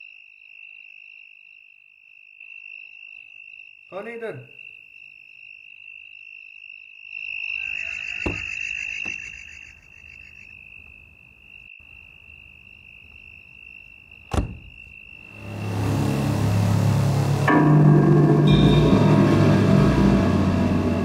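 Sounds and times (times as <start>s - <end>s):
crickets and insects trilling: 0.0s - 17.3s.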